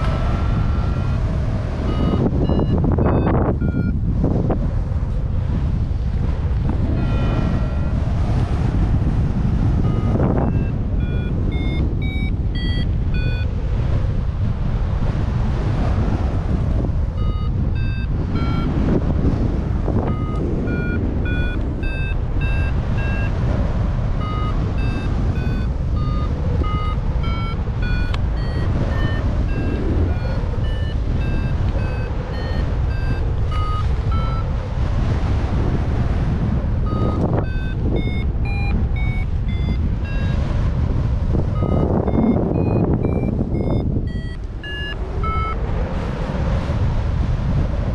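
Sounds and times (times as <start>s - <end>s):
variometer beeping: 0.0s - 4.6s, 6.5s - 13.9s, 16.8s - 34.7s, 36.0s - 46.1s
wind on microphone: 0.0s - 47.9s.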